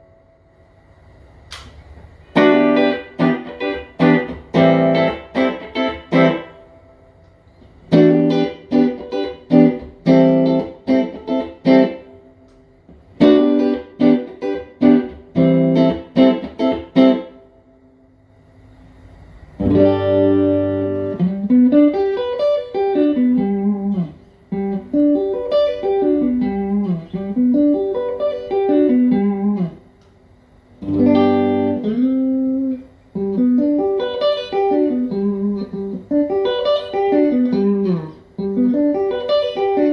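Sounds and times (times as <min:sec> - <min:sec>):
clean electric guitar: 0:01.5 - 0:17.8, 0:19.6 - 0:39.9.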